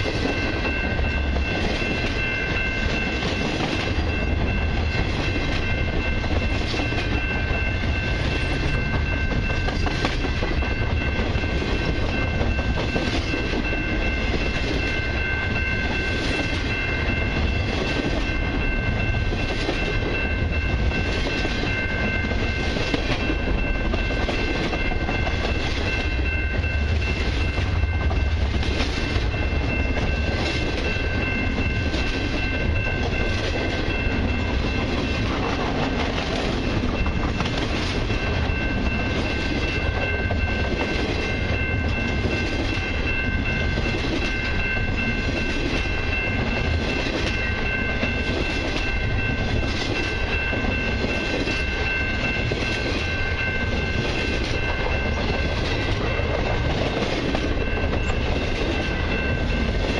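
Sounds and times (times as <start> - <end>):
freight train rumbling: 0.0 - 59.9.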